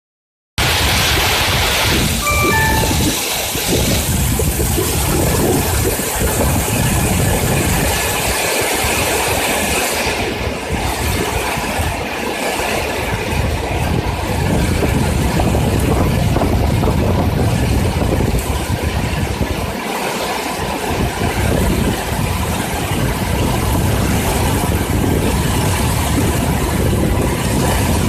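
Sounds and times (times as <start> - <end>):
gusting wind on microphone: 0.6 - 2.2, 3.0 - 28.0.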